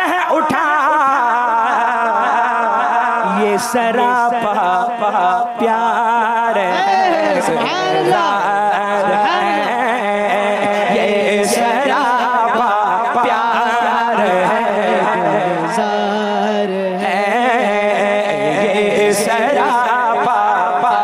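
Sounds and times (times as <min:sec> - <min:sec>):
man singing melismatic lines: 0:00.0 - 0:21.0.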